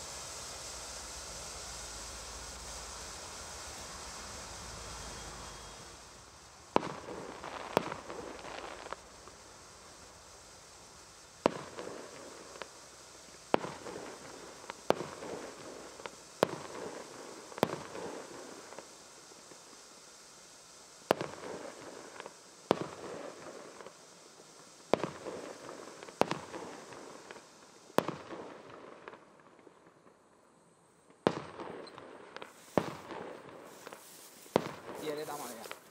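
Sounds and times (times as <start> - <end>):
firework bangs: 0.0 - 30.2, 31.1 - 35.9
faint hiss: 0.0 - 35.9.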